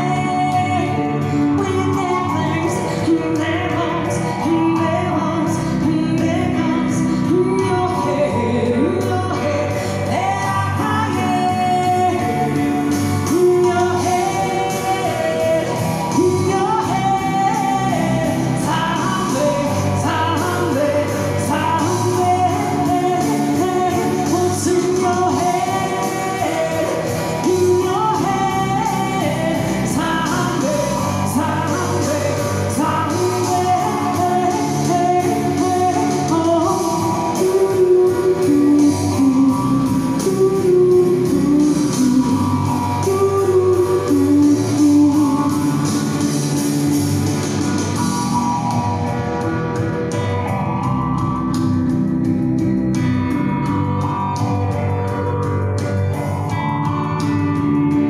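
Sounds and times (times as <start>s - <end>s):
woman singing into microphone: 0.0s - 51.3s.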